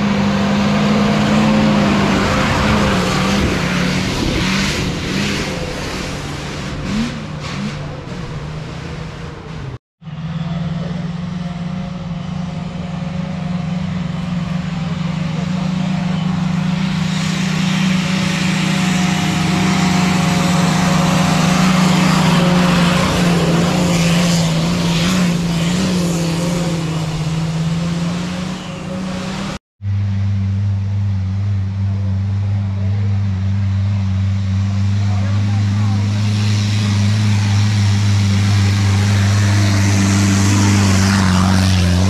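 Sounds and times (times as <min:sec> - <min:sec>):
lower pitched engine running: 0:00.0 - 0:42.0
rush of noise: 0:00.0 - 0:42.0
vehicle engine running: 0:00.0 - 0:42.0.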